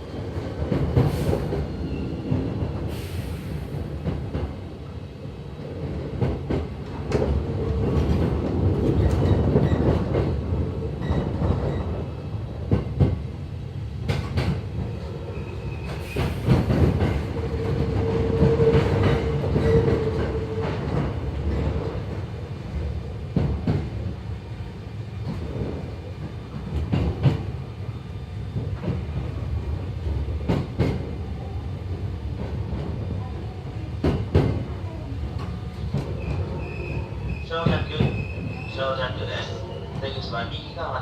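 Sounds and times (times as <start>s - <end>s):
low rumble of train wheels: 0.0s - 41.0s.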